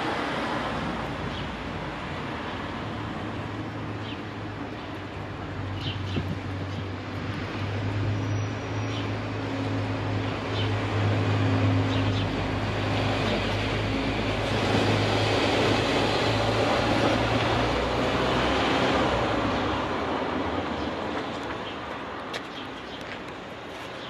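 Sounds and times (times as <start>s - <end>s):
passing traffic: 0.0s - 24.0s.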